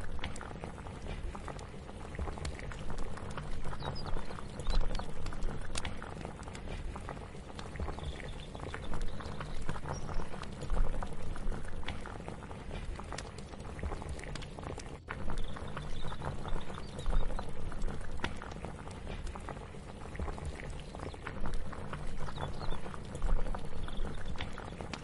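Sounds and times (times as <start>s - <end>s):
pot bubbling on stove: 0.0s - 25.0s.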